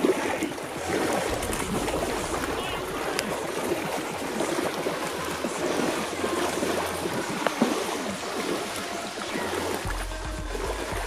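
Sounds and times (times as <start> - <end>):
water splashing and churning: 0.0 - 11.0.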